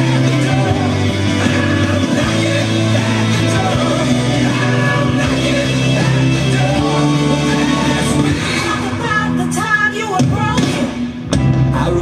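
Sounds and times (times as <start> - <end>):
electric guitar: 0.0 - 12.0
rock band playing: 0.0 - 12.0.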